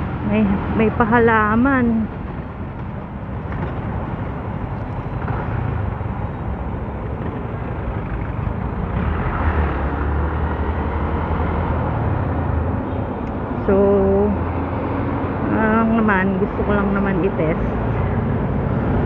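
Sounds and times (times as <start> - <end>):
motorcycle engine drone: 0.0 - 19.0
road noise: 0.0 - 19.0.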